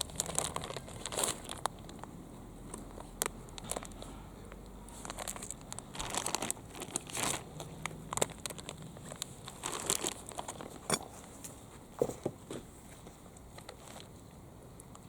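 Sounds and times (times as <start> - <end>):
crinkling and rustling: 0.0 - 15.0.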